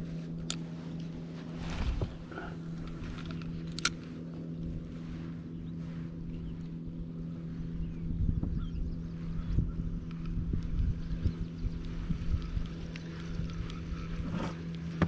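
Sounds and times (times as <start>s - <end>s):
boat motor humming: 0.0s - 15.0s
low rumble: 0.0s - 15.0s.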